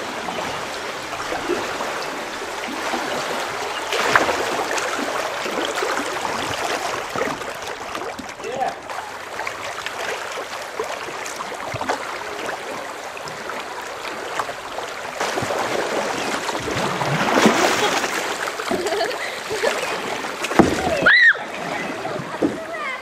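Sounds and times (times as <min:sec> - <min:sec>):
river current rushing and gurgling: 0:00.0 - 0:23.0.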